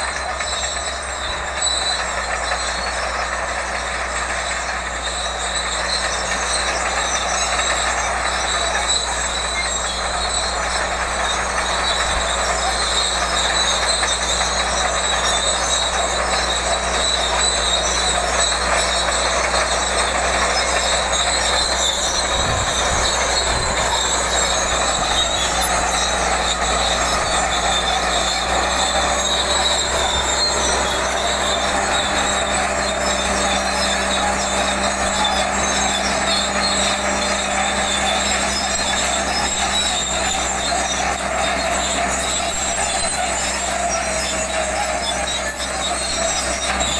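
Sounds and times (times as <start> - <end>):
diesel engine drone: 0.0 - 46.9
steel tracks squealing and clattering: 0.0 - 46.9.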